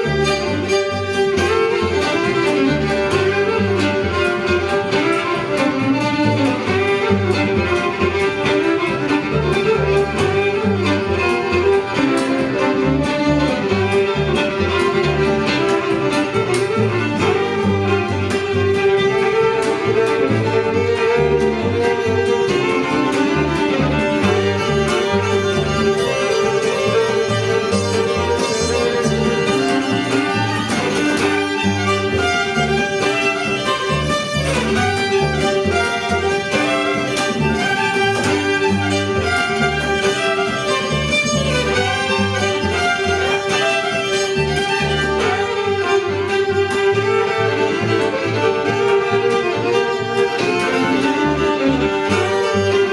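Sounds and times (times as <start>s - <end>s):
bass line: 0.0s - 52.9s
fiddle bowed notes: 0.0s - 52.9s.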